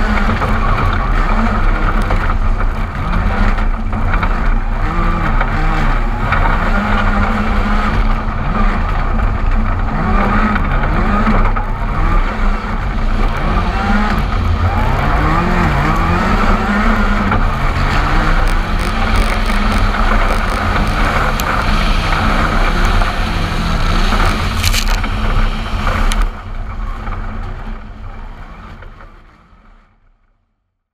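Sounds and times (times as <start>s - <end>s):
wind noise: 0.0s - 29.0s
gravel and tyre noise: 0.0s - 30.9s
rally car engine at full pace: 0.0s - 30.9s.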